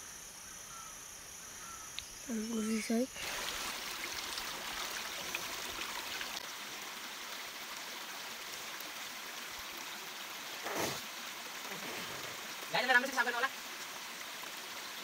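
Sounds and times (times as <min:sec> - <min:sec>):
stream running over stones: 0:02.8 - 0:15.0.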